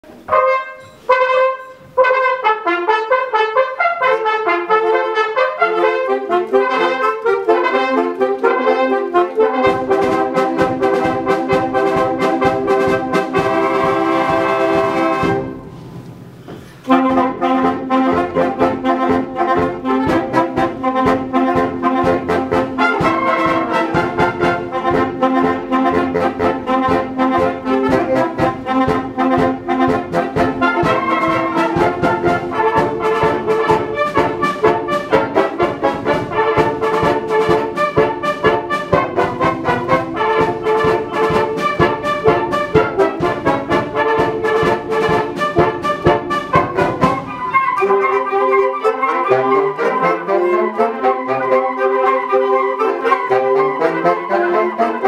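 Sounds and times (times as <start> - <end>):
wind band playing: 0.0 - 55.0.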